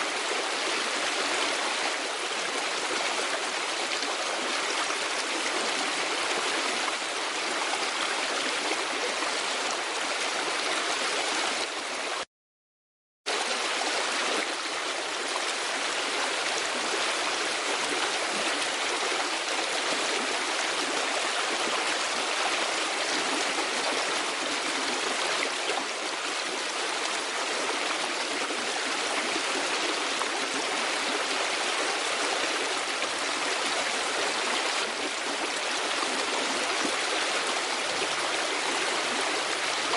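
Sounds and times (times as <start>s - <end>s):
stream water rushing: 0.0s - 12.2s, 13.3s - 39.9s.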